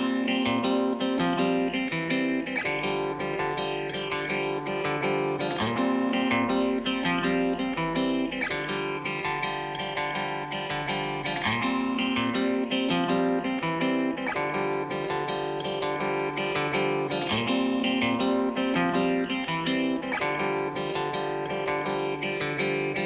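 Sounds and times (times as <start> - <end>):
guitar music plucked and strummed: 0.0 - 23.0.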